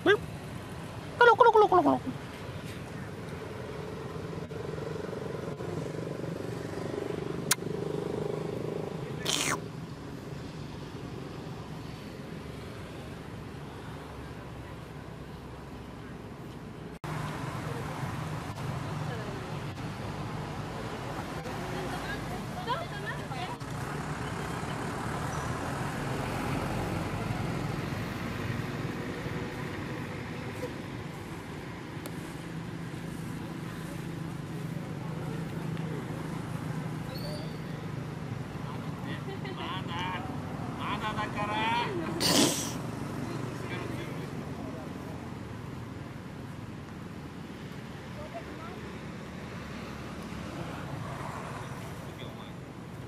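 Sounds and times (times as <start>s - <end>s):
road vehicle engine passing: 0.0s - 16.4s, 17.0s - 53.0s.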